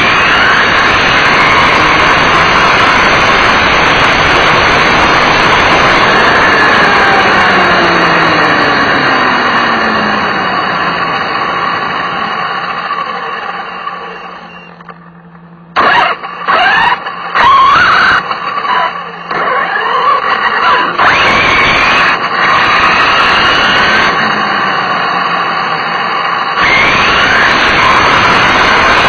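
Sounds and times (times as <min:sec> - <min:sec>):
small engine revving: 0:00.0 - 0:29.0.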